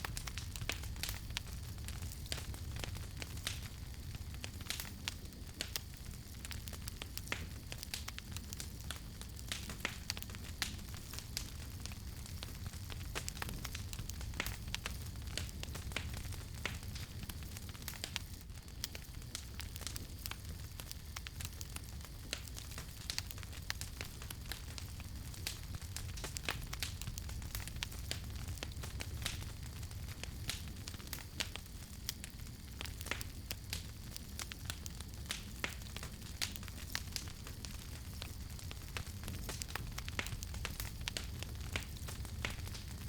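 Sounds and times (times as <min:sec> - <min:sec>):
campfire crackles and pops: 0:00.0 - 0:43.0
low rumble of flames: 0:00.0 - 0:43.0.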